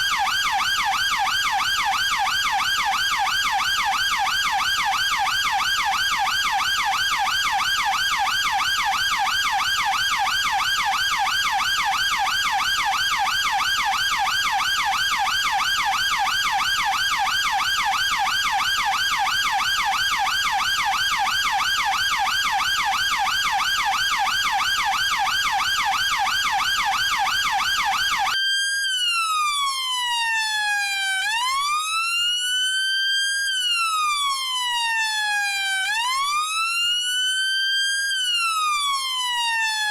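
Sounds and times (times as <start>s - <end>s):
police siren yelp and wail: 0.0s - 39.9s.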